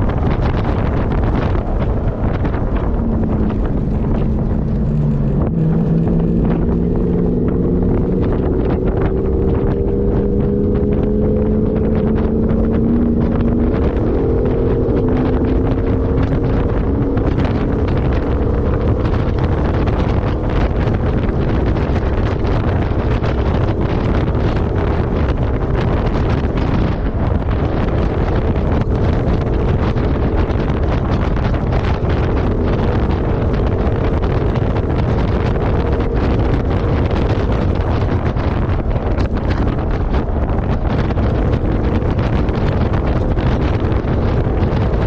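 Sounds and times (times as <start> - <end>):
off-road vehicle engine: 0.0 - 45.0
wind buffeting microphone: 0.0 - 45.0.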